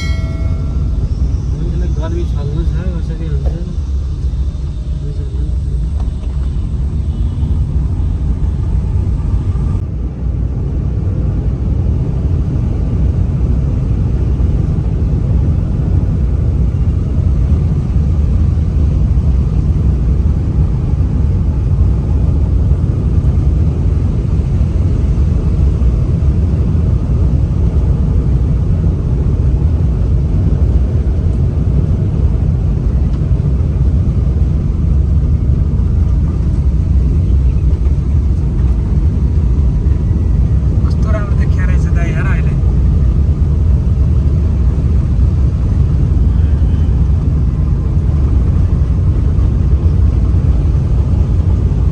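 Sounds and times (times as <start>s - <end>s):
vehicle rumbling along a road: 0.0s - 51.9s.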